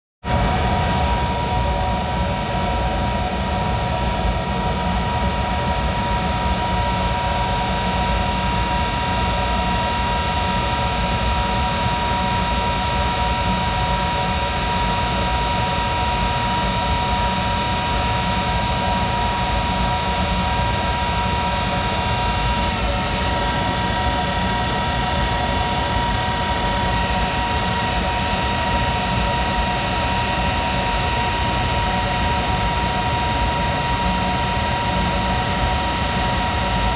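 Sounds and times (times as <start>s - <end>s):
lathe running with high whine: 4.8s - 36.9s.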